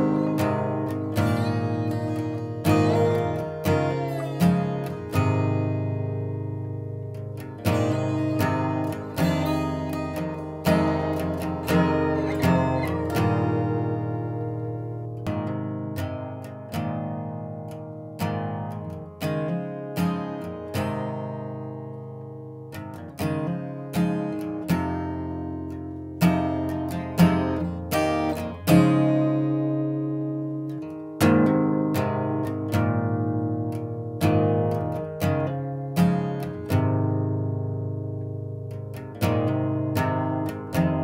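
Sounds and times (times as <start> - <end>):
acoustic guitar plucked notes: 0.0 - 41.0.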